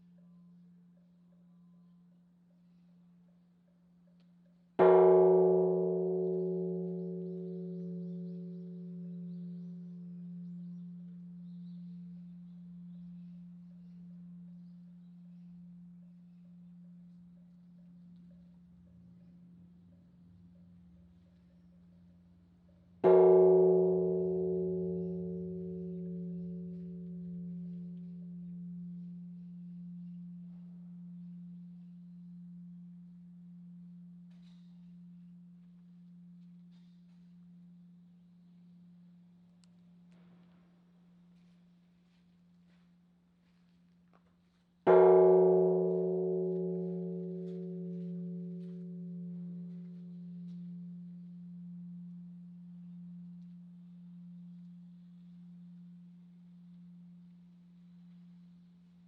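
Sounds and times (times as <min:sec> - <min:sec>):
bronze temple bell humming: 0:00.0 - 0:40.6, 0:44.4 - 0:59.0.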